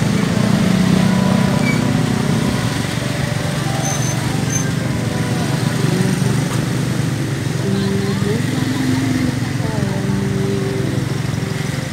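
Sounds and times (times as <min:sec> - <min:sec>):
street traffic noise: 0:00.0 - 0:11.9
vehicle engine running: 0:00.0 - 0:11.9.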